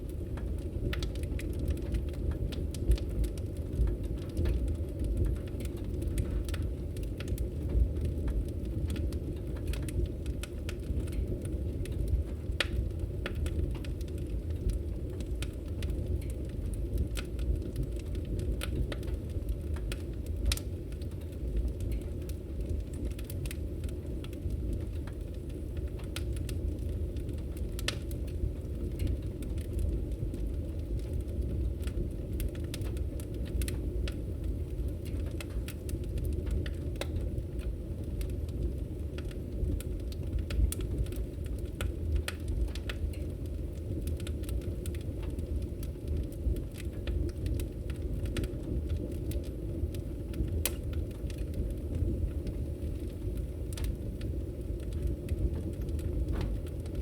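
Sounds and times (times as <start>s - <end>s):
fire popping: 0.0s - 57.0s
low rush of flames: 0.0s - 57.0s
wood fire crackling: 0.0s - 57.0s.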